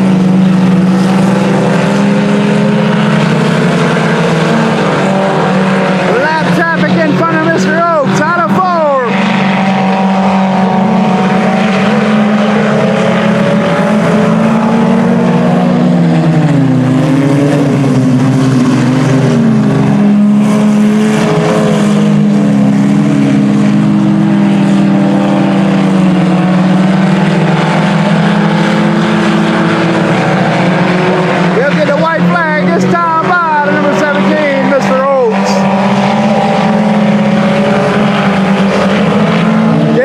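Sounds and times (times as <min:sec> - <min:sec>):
race car engines at speed: 0:00.0 - 0:40.0.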